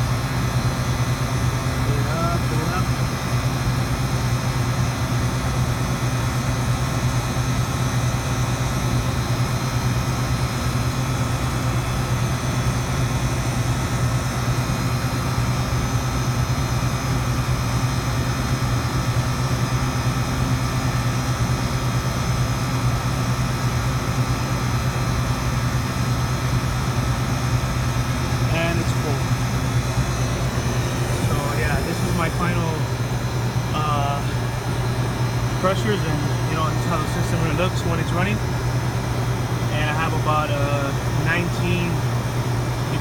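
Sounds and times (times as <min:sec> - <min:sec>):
condensing unit humming: 0:00.0 - 0:43.0.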